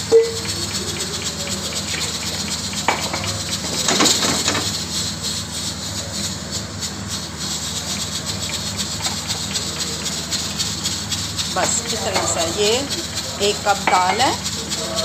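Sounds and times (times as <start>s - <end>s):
gas burner hissing: 0.0s - 15.0s.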